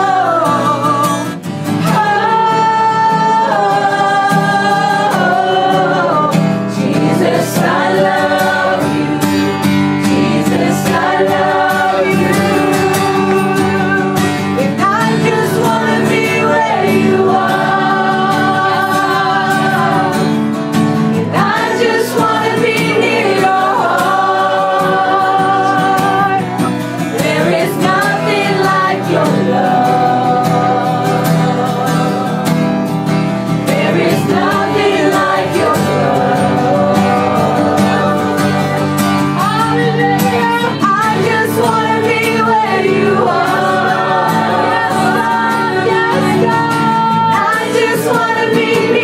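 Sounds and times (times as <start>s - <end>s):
sustained chords and guitar: 0.0s - 49.0s
voices singing wordless melody: 0.0s - 49.0s.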